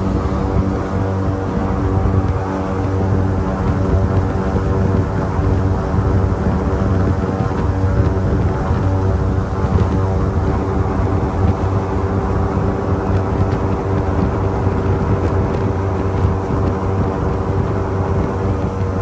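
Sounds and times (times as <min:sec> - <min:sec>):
airboat engine drone: 0:00.0 - 0:19.0.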